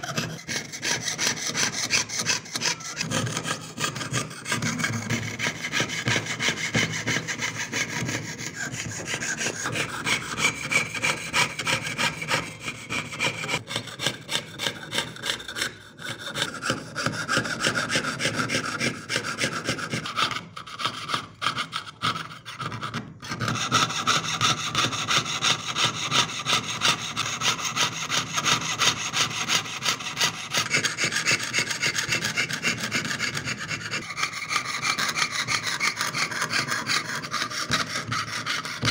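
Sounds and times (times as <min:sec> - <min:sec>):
saw rasping through metal sheet: 0:00.0 - 0:38.9.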